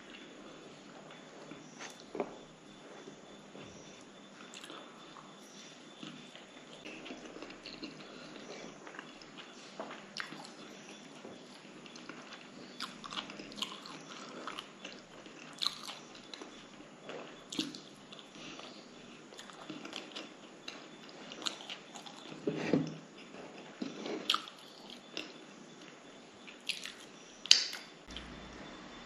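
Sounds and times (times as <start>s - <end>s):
chewing with wet smacks: 0.0s - 22.5s, 23.1s - 28.2s.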